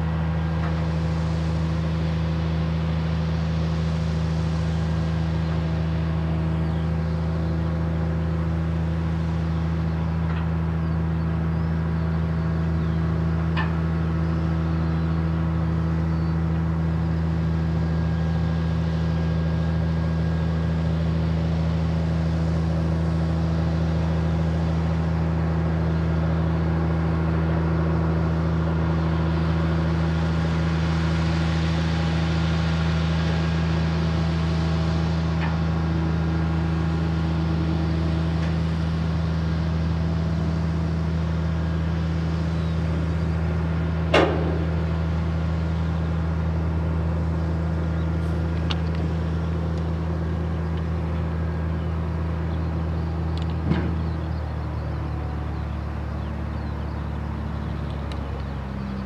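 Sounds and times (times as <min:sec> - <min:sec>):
crane diesel engine running: 0:00.0 - 0:59.0.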